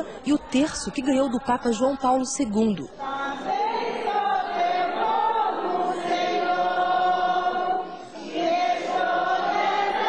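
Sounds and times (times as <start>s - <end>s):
crowd singing a slow religious song: 0.0s - 10.0s.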